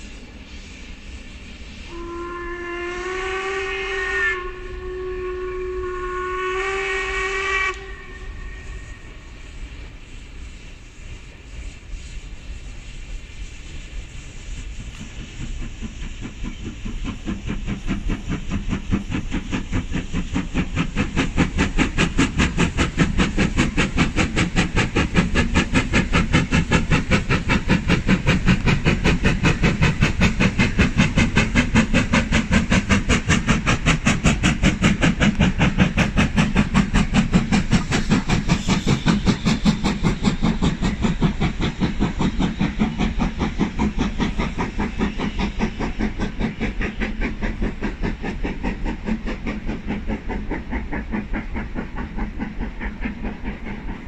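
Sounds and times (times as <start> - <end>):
steam hiss: 0.0 - 54.0
steam locomotive chuffing: 0.0 - 54.0.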